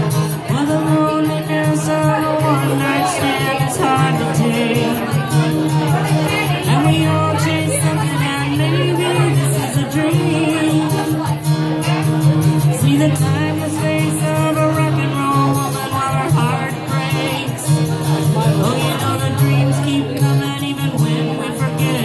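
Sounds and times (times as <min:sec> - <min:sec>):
acoustic guitar strumming: 0:00.0 - 0:22.0
woman singing: 0:00.3 - 0:12.0, 0:12.6 - 0:17.8, 0:18.4 - 0:22.0.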